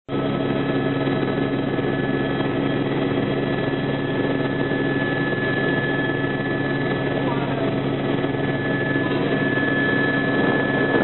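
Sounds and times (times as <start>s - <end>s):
helicopter engine and rotor drone: 0.1s - 11.0s.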